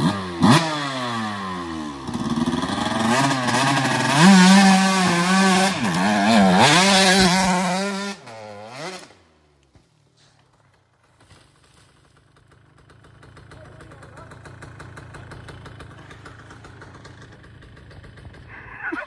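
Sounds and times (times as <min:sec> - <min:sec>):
dirt bike engine revving: 0:00.0 - 0:09.4, 0:11.8 - 0:18.8.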